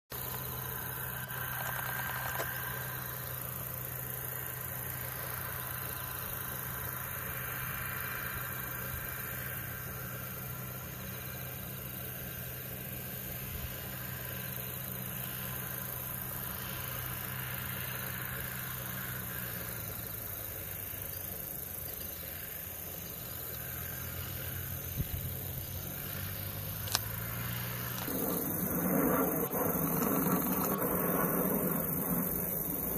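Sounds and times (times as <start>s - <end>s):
engine idling hum: 0.0s - 32.9s.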